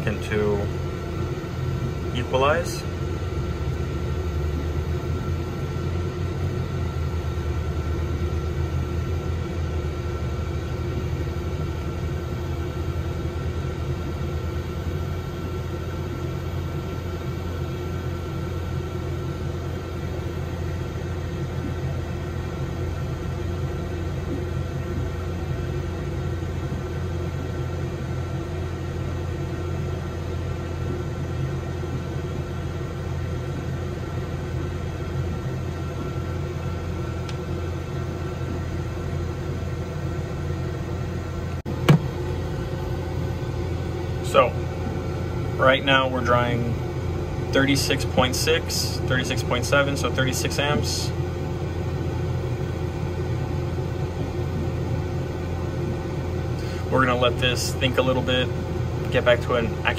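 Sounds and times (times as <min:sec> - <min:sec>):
air conditioner humming: 0:00.0 - 0:59.9
faint high whine: 0:00.0 - 0:59.9.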